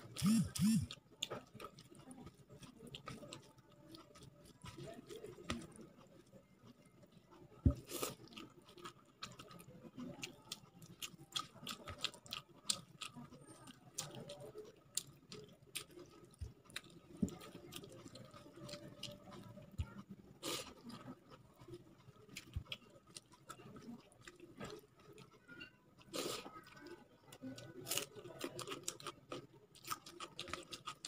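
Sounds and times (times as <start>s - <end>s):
wet chewing with smacking: 0.0s - 25.4s, 26.0s - 31.0s.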